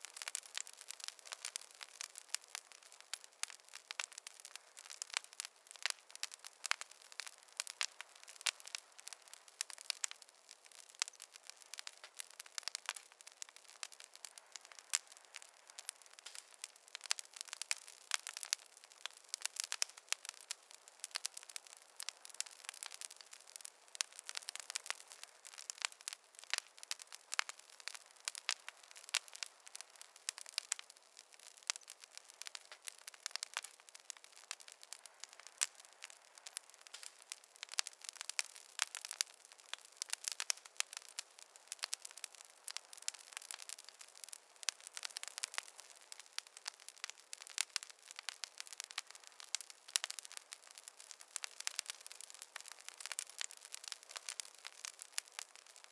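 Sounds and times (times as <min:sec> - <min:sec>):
campfire wood crackling: 0:00.0 - 0:55.9.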